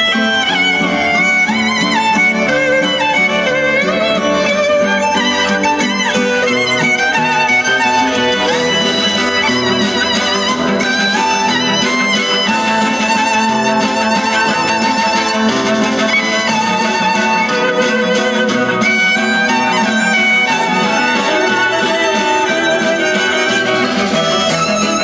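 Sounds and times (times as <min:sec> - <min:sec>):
violin melody: 0:00.0 - 0:25.0.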